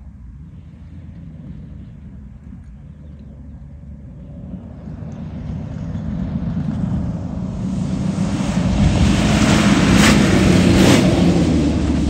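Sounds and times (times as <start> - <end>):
truck engine driving hard: 0.0 - 12.0.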